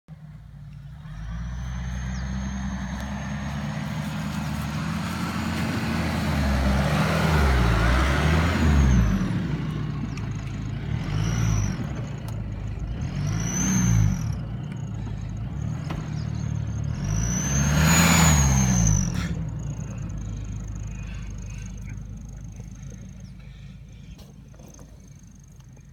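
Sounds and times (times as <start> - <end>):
engine revving: 0.1 - 25.9
tyres rushing through sand: 1.0 - 23.7.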